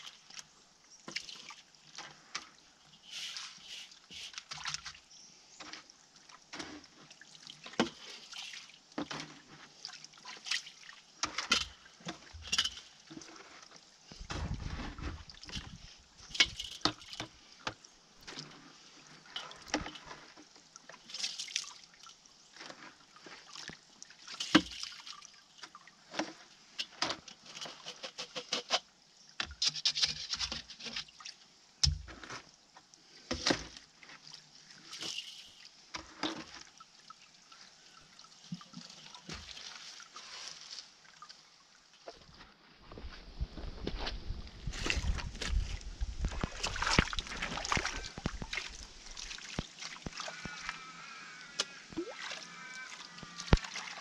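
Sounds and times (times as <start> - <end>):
water sloshing and trickling: 0.0 - 54.0.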